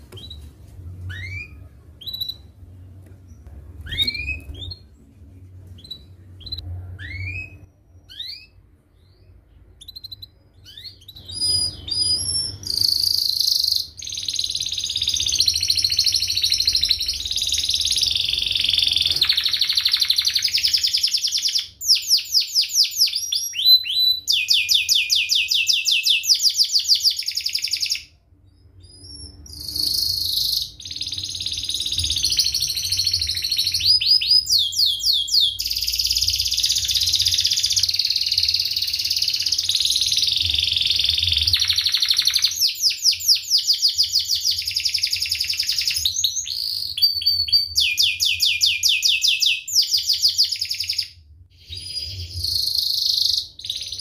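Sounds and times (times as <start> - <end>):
canary singing trills: 1.0 - 2.6, 3.2 - 4.9, 5.8 - 54.0.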